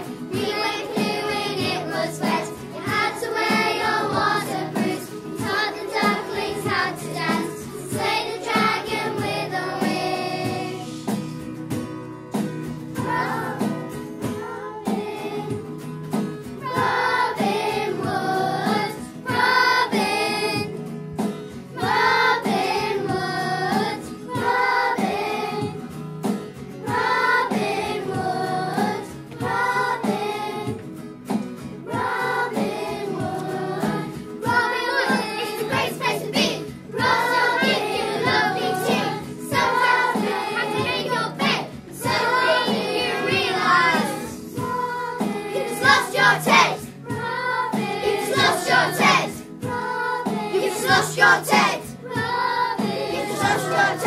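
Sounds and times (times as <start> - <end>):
children's choir singing: 0.0 - 11.2, 13.0 - 15.7, 16.6 - 20.8, 21.8 - 25.8, 26.8 - 30.9, 31.8 - 54.0
instrumental accompaniment with beat: 0.0 - 54.0.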